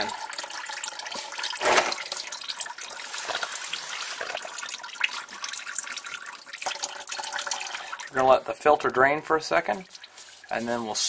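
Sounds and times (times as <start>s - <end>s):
oil trickling and dripping: 0.0s - 11.0s.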